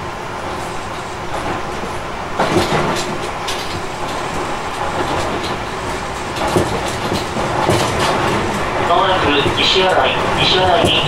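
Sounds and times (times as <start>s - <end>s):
train wheels rumbling on track: 0.0s - 11.0s
wheels clacking over rail joints: 0.4s - 11.0s.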